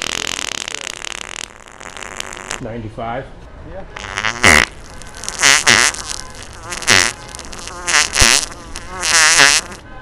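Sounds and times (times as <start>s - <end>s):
wet fart noises: 0.0s - 2.7s, 4.0s - 9.8s.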